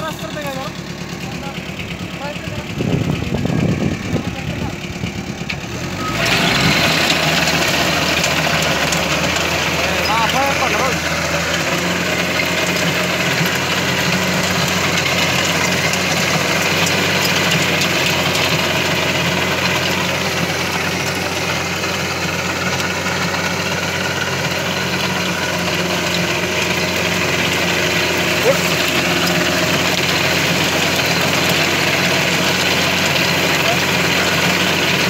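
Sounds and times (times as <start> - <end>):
rotary tiller through soil: 0.0 - 35.0
tractor diesel engine running: 0.0 - 35.0.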